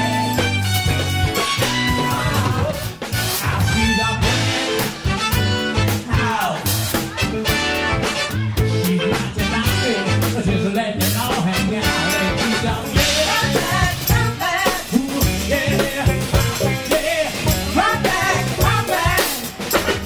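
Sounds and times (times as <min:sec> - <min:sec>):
drum kit: 0:00.0 - 0:20.0
funk and soul band playing: 0:00.0 - 0:20.0
person singing: 0:01.6 - 0:05.0, 0:05.8 - 0:20.0.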